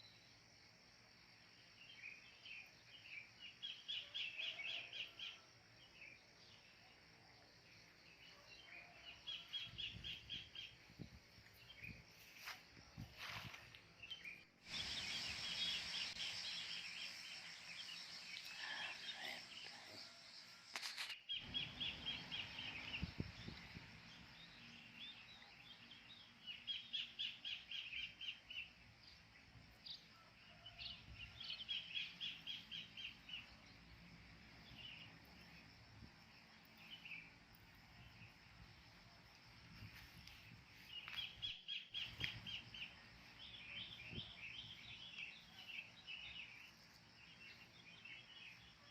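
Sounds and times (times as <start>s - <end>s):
faint outdoor background noise: 0.0s - 48.9s.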